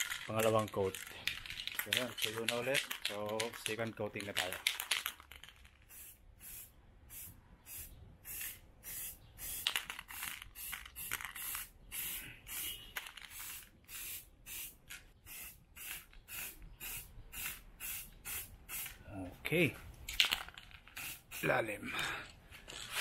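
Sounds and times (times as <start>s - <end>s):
spray paint can hissing: 0.0s - 19.0s, 20.3s - 21.6s.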